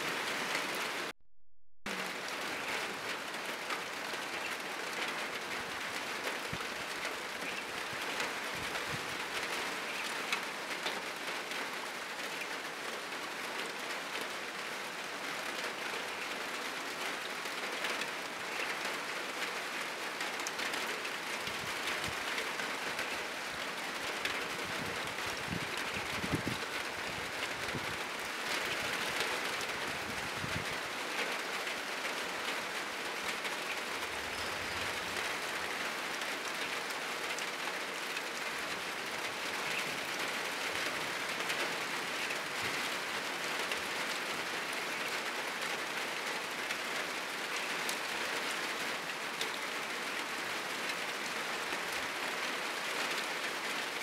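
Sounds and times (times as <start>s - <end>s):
heavy rain on a roof: 0.0s - 1.2s, 1.9s - 54.0s.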